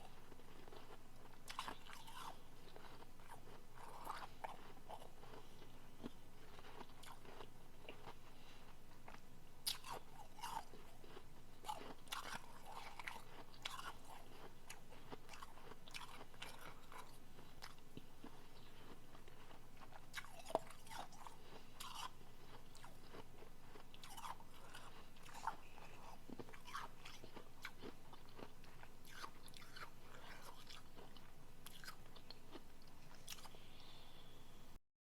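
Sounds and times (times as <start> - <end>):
chewing and crunching ice: 0.0 - 33.6.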